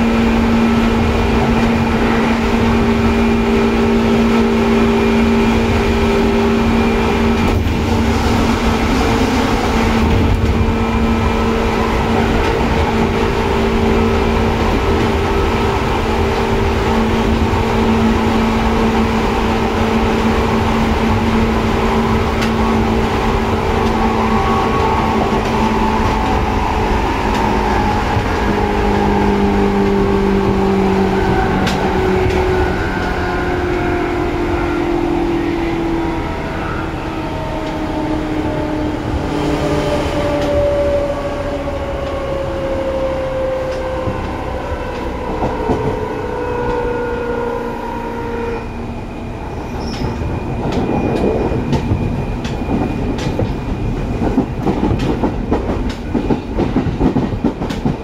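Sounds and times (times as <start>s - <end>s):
train motors whining: 0.0s - 53.8s.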